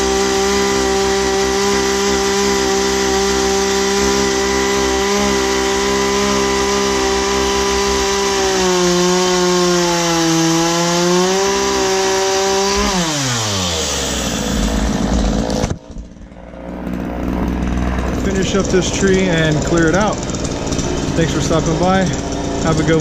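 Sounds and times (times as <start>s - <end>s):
chainsaw running: 0.0s - 23.0s.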